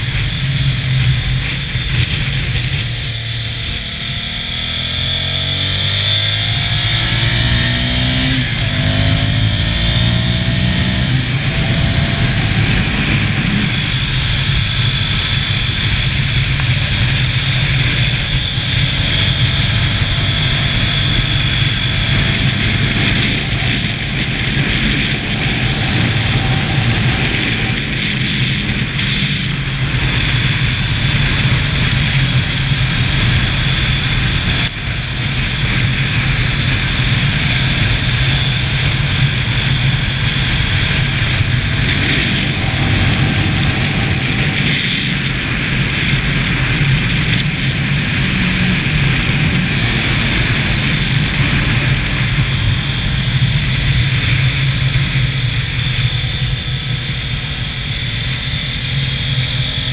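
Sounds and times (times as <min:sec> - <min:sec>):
motorcycle engine at speed: 0:00.0 - 0:59.9
wind rush over microphone: 0:00.0 - 0:59.9.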